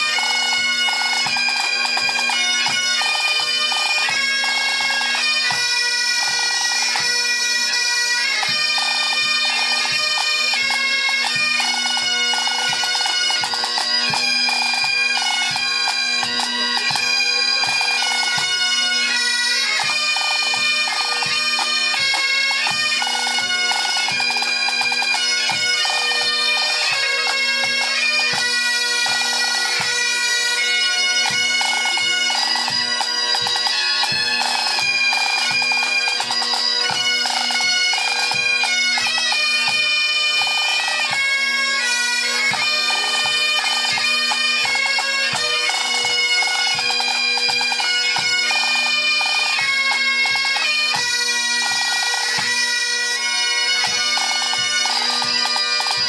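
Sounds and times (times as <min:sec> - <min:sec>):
bagpipes playing a tune: 0:00.0 - 0:56.0.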